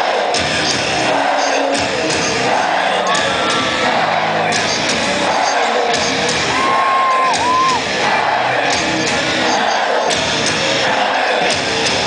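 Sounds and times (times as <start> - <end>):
crowd shouting along: 0.0 - 12.0.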